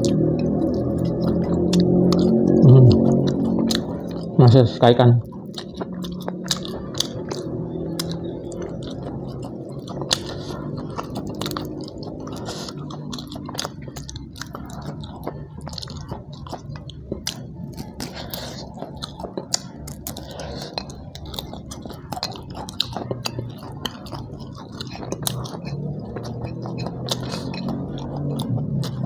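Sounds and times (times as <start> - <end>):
chewing and mouth smacking: 0.0 - 29.0.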